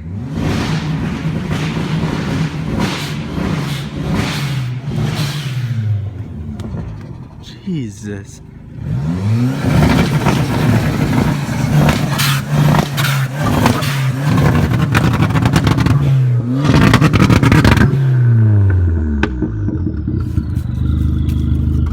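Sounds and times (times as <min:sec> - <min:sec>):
car engine revving: 0:00.0 - 0:21.9
crackling exhaust: 0:00.0 - 0:21.9.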